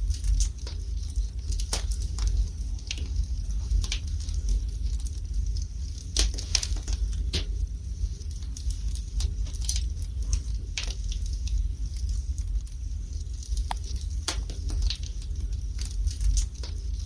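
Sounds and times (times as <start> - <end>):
fireplace fire crackling and popping: 0.0 - 17.0.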